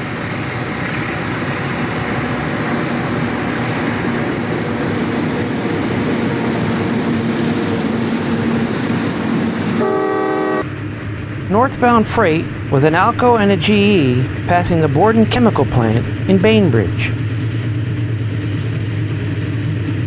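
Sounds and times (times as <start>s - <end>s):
diesel locomotives rumbling: 0.0s - 20.0s.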